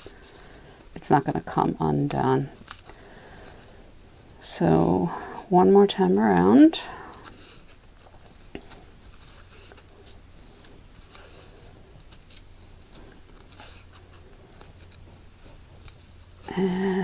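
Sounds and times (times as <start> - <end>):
fabric ribbon rustling: 0.0 - 5.2, 6.4 - 17.0.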